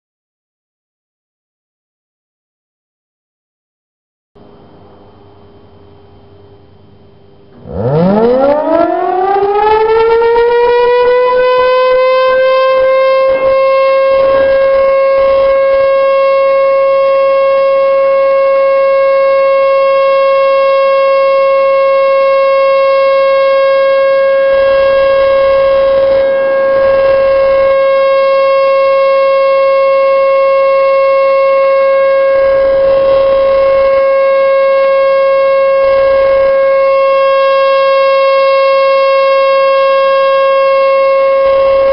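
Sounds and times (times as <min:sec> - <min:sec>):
rotating warning siren: 0:04.6 - 0:41.9.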